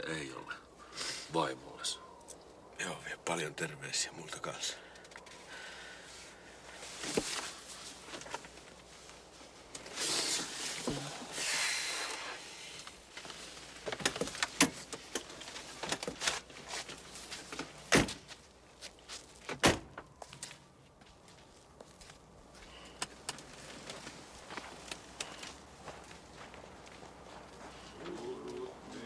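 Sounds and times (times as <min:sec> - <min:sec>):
rustling: 0:05.0 - 0:29.0.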